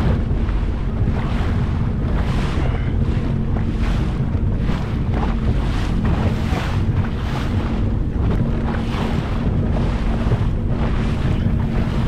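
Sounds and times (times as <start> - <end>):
choppy water washing against jetski: 0.0 - 12.0
steady low hum: 0.0 - 12.0
wind buffeting microphone: 0.0 - 12.0.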